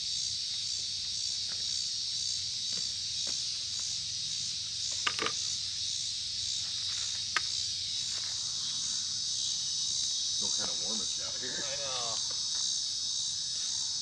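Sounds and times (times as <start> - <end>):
insects singing in high drone: 0.0 - 14.0.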